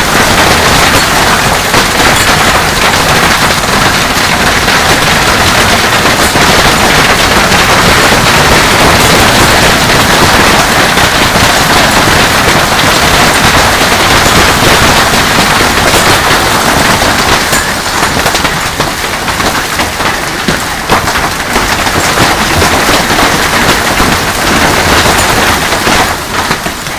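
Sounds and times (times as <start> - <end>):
hailstones clattering on surfaces: 0.0 - 26.9.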